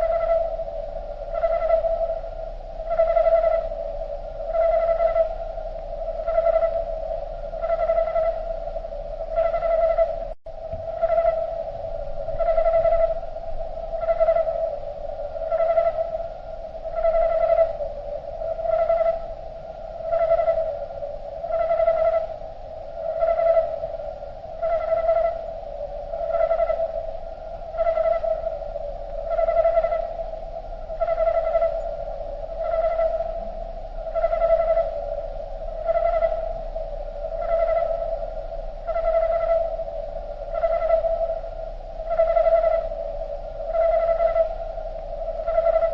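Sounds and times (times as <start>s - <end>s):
slowed cricket chirping: 0.0s - 45.9s.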